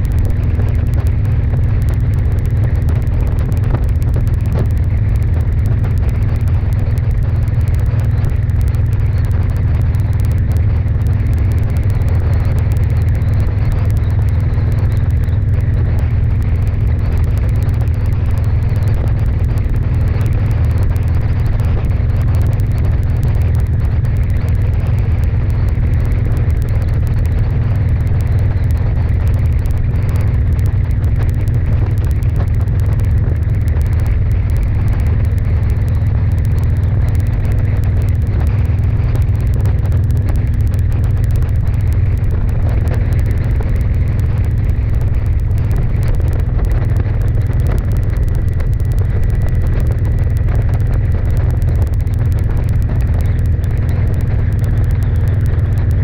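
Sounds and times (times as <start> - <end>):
vehicle driving on highway: 0.0 - 56.0
wind buffeting microphone: 0.0 - 56.0.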